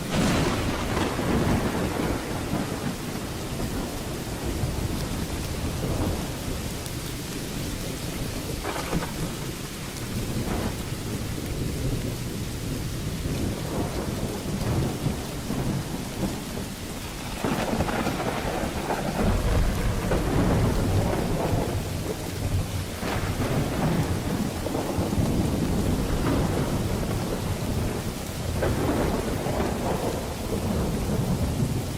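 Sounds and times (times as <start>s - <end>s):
crackling thunder peals: 0.0s - 31.9s
heavy rain: 0.0s - 31.9s
rolling thunder: 0.0s - 31.9s.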